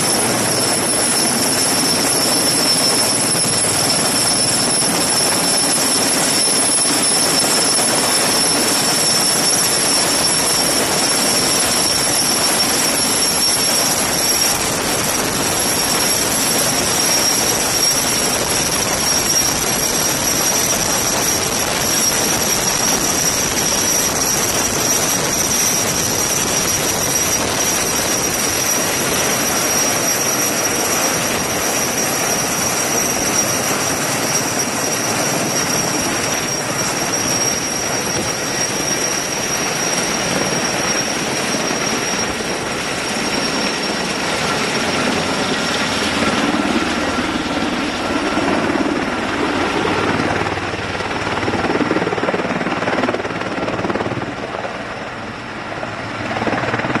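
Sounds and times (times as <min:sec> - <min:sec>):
high steady whine: 0:00.0 - 0:54.2
helicopter hovering: 0:00.0 - 0:57.0.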